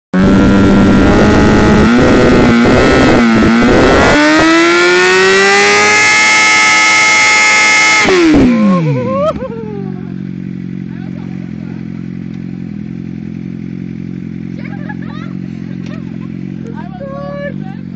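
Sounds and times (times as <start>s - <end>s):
motorcycle engine revving: 0.1s - 17.9s.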